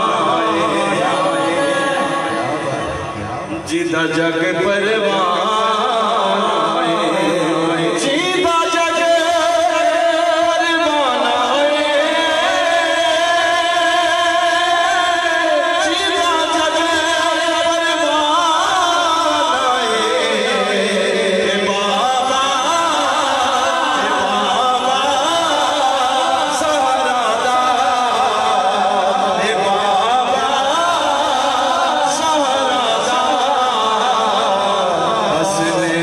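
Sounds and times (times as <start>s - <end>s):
man singing into a microphone: 0.0s - 36.0s.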